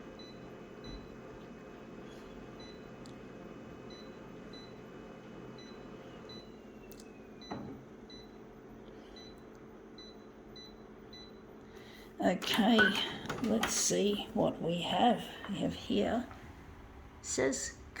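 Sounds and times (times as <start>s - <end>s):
electrical appliance hum: 0.0s - 18.0s.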